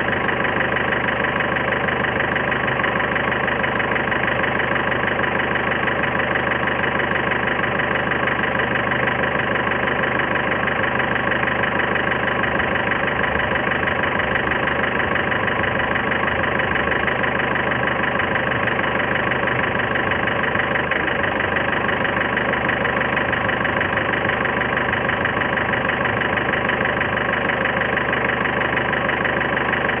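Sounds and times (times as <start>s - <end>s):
diesel engine idling with knock: 0.0s - 30.0s.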